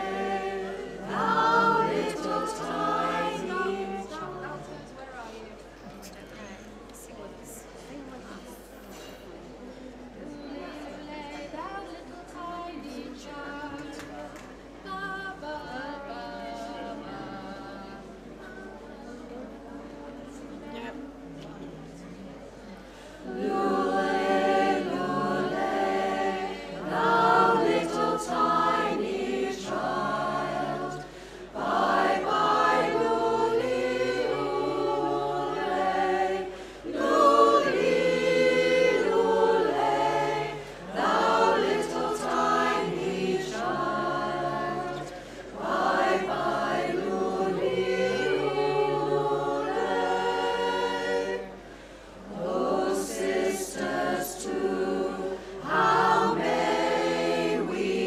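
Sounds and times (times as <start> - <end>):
women's choir singing a cappella: 0.0 - 58.0.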